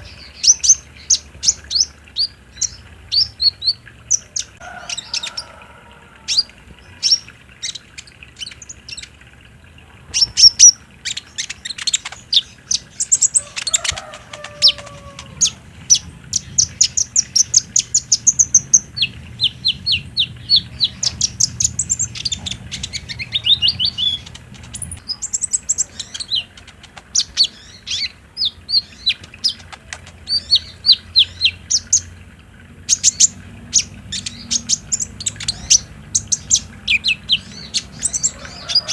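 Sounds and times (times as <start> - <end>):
bird chirps and trills: 0.0 - 38.9.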